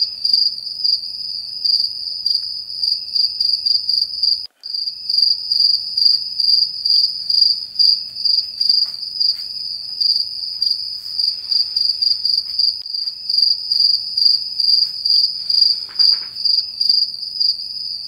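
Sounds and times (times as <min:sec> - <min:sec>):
cricket chirping: 0:00.0 - 0:18.0.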